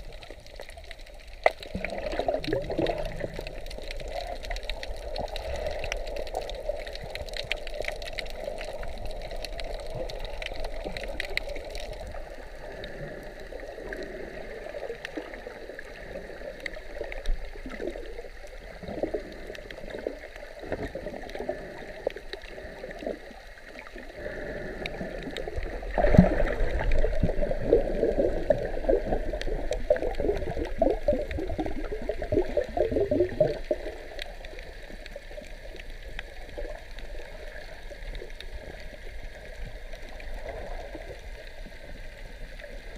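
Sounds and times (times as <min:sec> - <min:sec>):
small crackles: 0:00.0 - 0:42.9
underwater gurgling and bubbling: 0:00.0 - 0:42.9.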